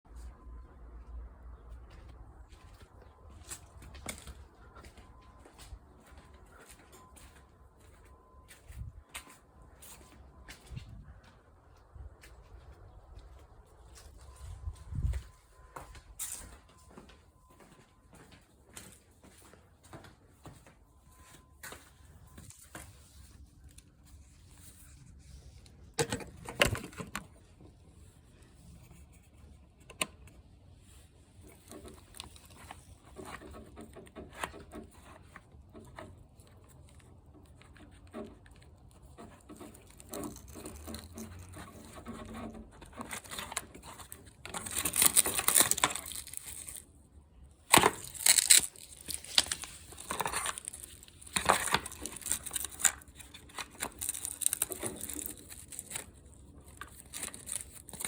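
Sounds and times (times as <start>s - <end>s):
crinkling and rustling: 0.1s - 58.0s.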